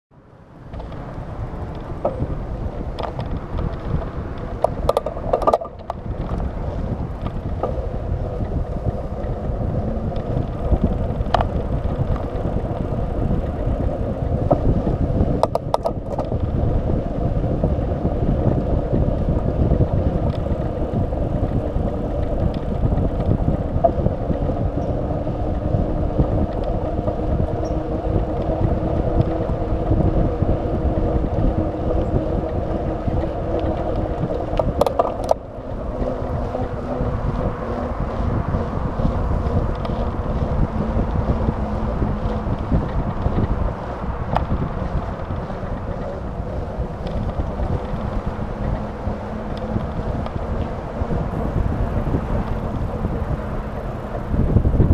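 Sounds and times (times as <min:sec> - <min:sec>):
wind rushing over microphone: 0:00.1 - 0:54.9
bike clicks and knocks: 0:00.6 - 0:54.8
tyre hum on pavement: 0:00.6 - 0:54.9.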